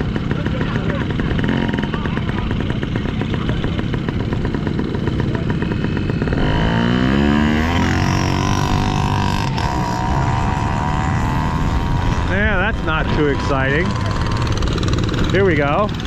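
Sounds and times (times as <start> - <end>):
motorcycle engines racing: 0.0 - 16.0.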